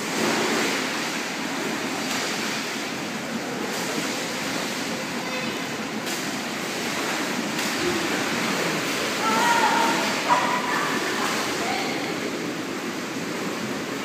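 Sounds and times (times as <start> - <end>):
pool water splashing: 0.0 - 14.0.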